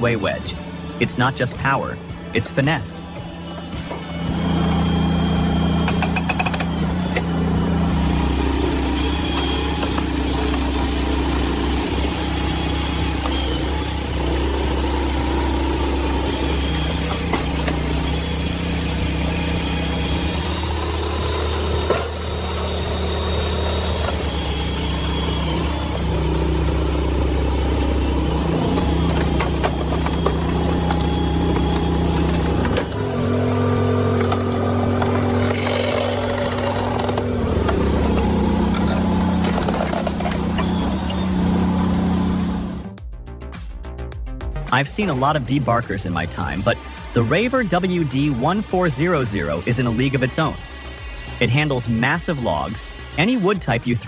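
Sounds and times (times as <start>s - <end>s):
log splitter engine running: 0.0s - 43.0s, 44.8s - 54.0s.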